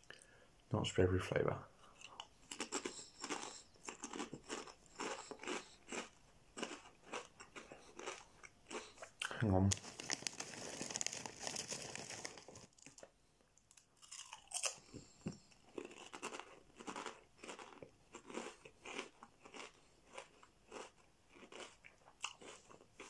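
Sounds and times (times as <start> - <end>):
crunchy chewing of crisps: 2.0 - 23.0.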